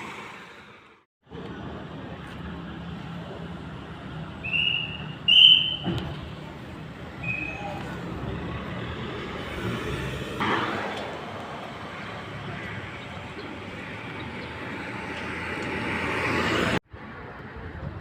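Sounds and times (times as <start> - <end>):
road traffic rushing: 0.0 - 18.0.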